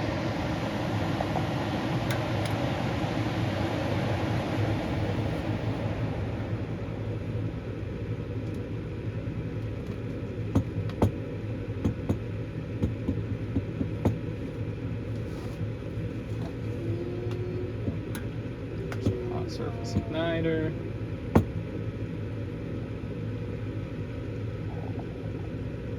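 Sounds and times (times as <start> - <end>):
furnace inducer motor humming: 0.0 - 25.9.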